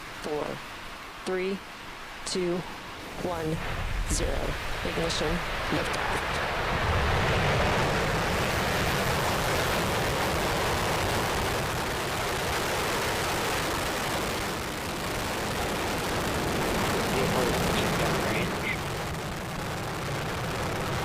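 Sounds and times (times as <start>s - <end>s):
rocket engines deep rumble: 2.4s - 21.0s.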